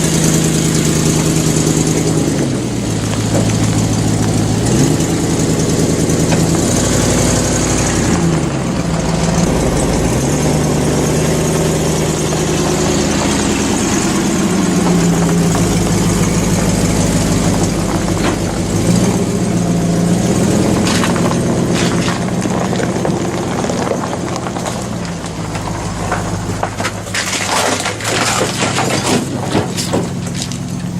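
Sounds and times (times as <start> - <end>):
truck engine revving under load: 0.0 - 30.9.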